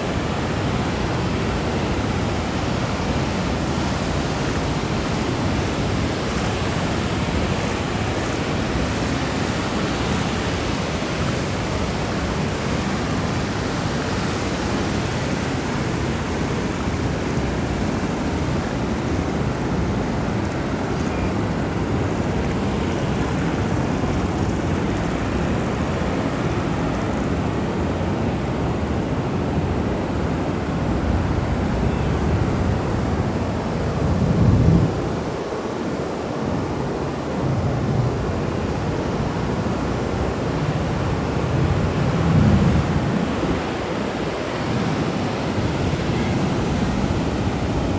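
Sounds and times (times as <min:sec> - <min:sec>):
ocean waves washing: 0:00.0 - 0:47.9.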